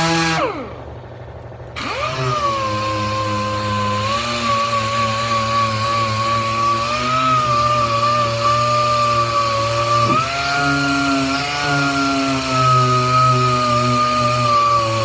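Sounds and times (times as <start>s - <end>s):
sander whining on metal: 0.0s - 0.8s, 1.8s - 15.0s.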